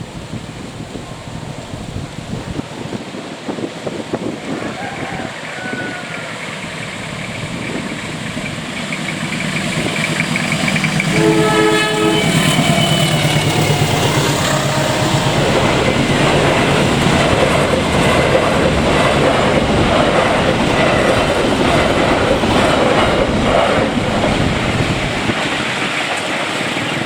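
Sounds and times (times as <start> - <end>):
train wheels roaring on rails: 0.0 - 27.0.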